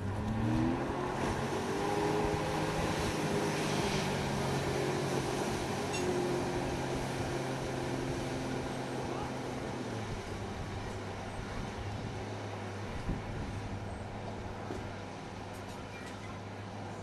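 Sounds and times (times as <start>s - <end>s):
boat engine: 0.0s - 17.0s
wind and water hiss: 0.0s - 17.0s.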